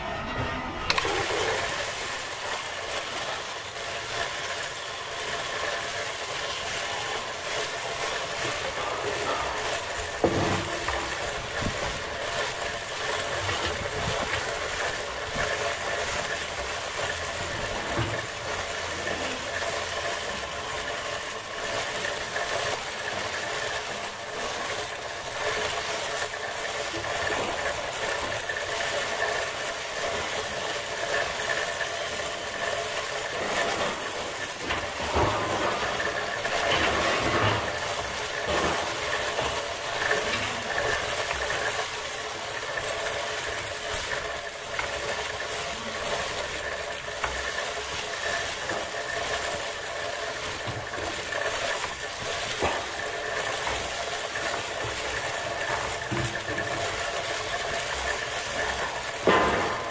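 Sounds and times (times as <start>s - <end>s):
electric sheep shears humming: 0.0s - 59.9s.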